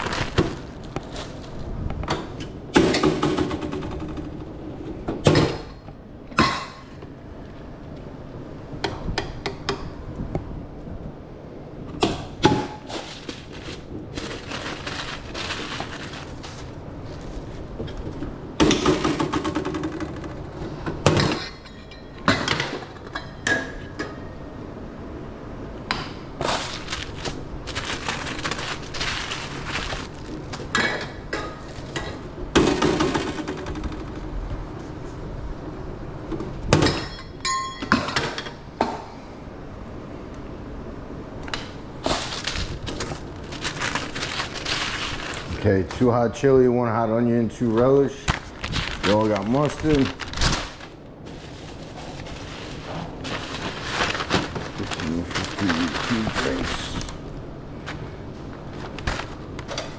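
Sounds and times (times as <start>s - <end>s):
steady background noise: 0.0s - 59.9s.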